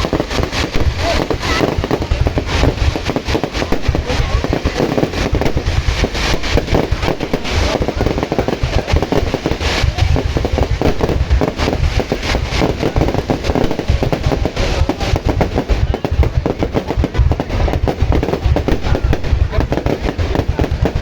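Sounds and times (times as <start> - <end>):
fireworks bangs and booms: 0.0 - 21.0
fireworks crackling bursts: 0.0 - 21.0.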